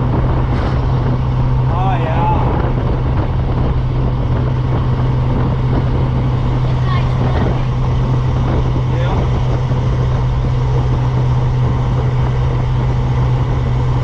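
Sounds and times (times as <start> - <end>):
car engine drone: 0.0 - 14.0
road noise: 0.0 - 14.0.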